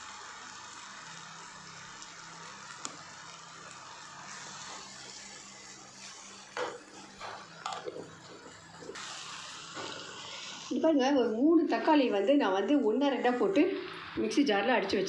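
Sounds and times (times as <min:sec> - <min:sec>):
gravy sizzling in a pan: 0:00.0 - 0:15.0.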